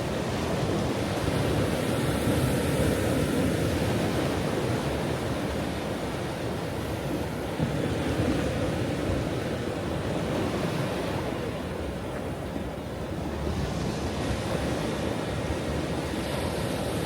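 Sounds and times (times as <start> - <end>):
ocean waves washing on shore: 0.0 - 17.0.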